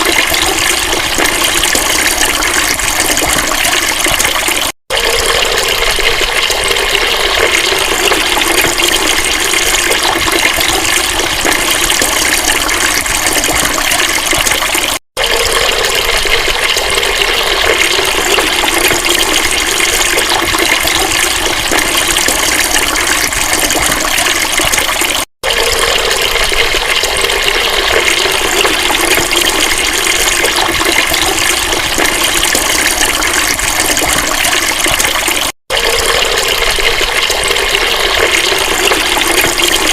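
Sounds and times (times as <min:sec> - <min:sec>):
rush of flowing water: 0:00.0 - 0:39.9.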